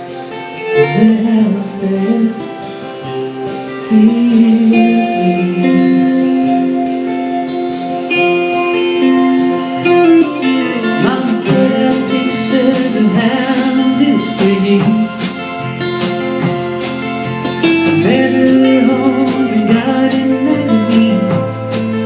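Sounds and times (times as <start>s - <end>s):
acoustic guitar: 0.0s - 22.0s
sliding bending lead guitar notes: 0.0s - 22.0s.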